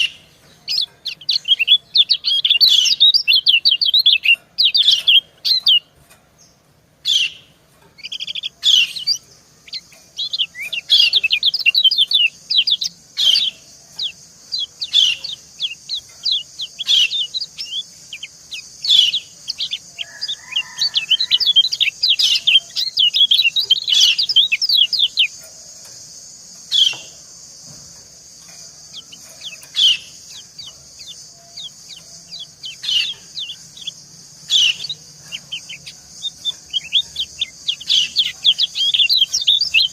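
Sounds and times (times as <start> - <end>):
bird chirps: 0.0 - 39.9
steady high hiss: 0.0 - 39.9.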